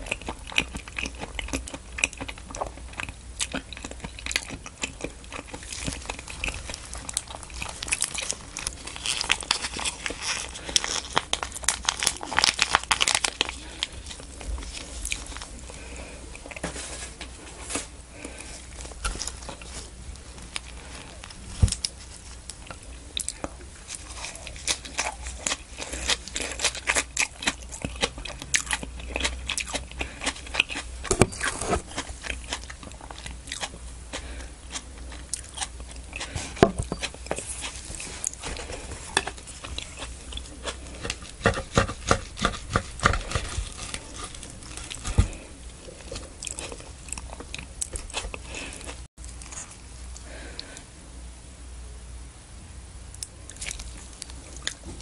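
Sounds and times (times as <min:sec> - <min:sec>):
crisp crunching of salad greens: 0:00.0 - 0:50.6, 0:53.5 - 0:55.0.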